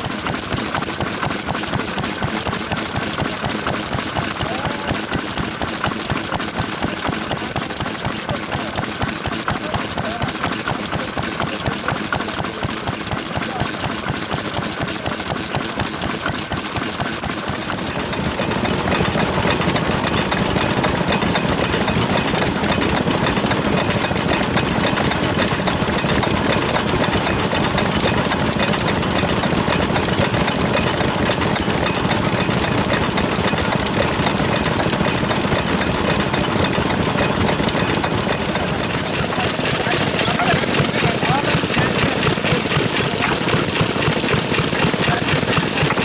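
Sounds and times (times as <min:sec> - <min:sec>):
stationary engine chugging: 0:00.0 - 0:46.0.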